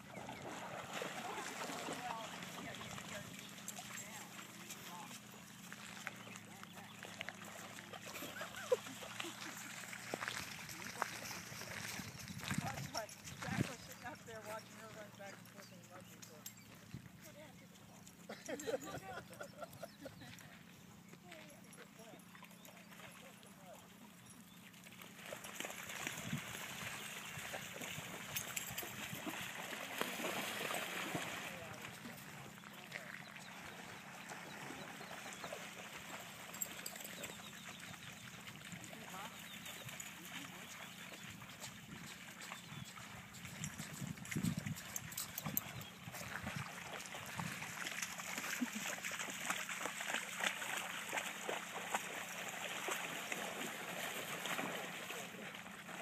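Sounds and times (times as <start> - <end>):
dogs splashing through water: 0.0 - 56.0.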